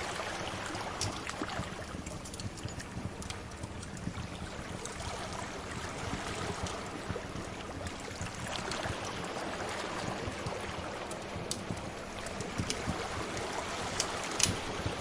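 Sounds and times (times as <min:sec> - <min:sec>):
sea waves washing: 0:00.0 - 0:15.0
wood fire crackles: 0:00.0 - 0:15.0.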